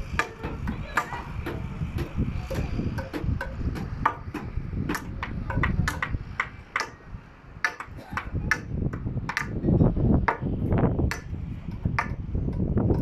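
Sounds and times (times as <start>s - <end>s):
hammers striking nails into timber: 0.0s - 7.0s, 7.6s - 9.6s, 10.3s - 13.0s
low background rumble: 0.0s - 13.0s.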